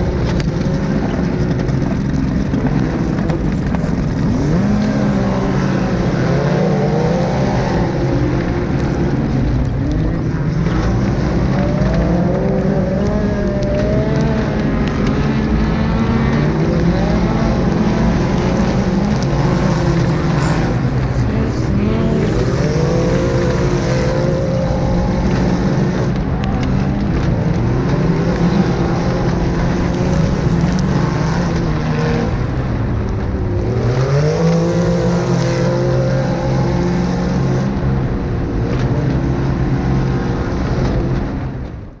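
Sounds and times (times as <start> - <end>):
racing engines revving: 0.0 - 41.8.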